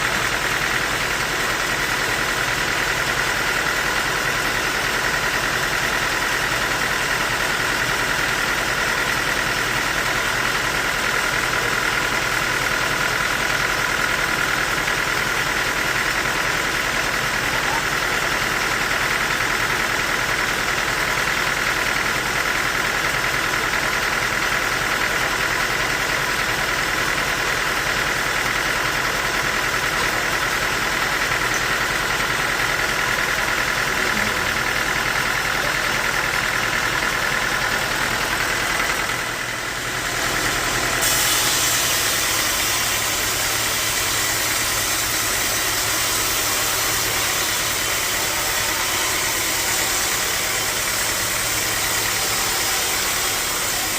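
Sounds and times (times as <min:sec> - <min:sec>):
sawmill bandsaw running: 0:00.0 - 0:53.9.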